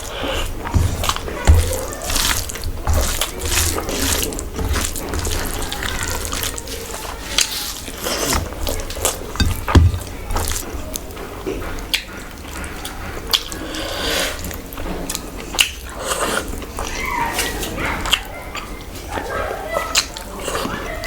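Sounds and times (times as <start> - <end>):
wet chewing and smacking: 0.0 - 21.0.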